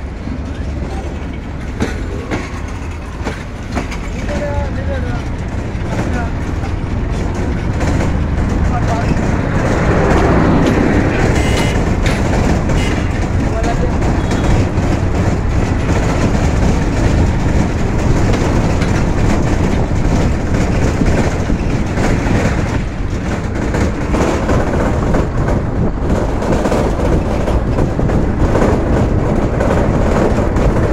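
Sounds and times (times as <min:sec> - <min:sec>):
train wheels clattering over joints: 0:00.0 - 0:30.9.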